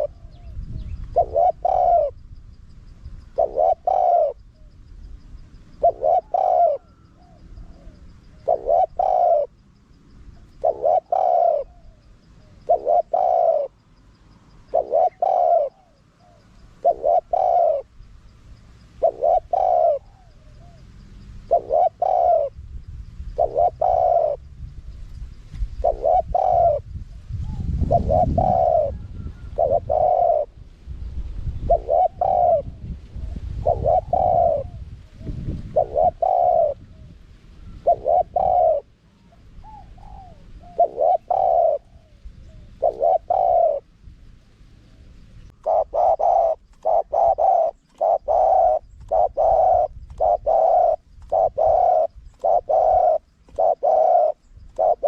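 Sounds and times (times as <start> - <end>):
dove cooing: 0.0 - 2.4, 3.2 - 4.8, 5.7 - 9.6, 10.3 - 13.8, 14.6 - 18.0, 18.9 - 22.6, 23.3 - 24.5, 25.6 - 30.7, 31.5 - 44.0, 44.8 - 55.0.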